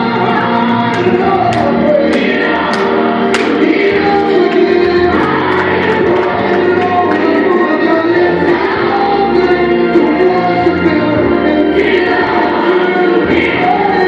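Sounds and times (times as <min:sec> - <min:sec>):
band playing: 0:00.0 - 0:14.0
choir singing: 0:00.0 - 0:14.0.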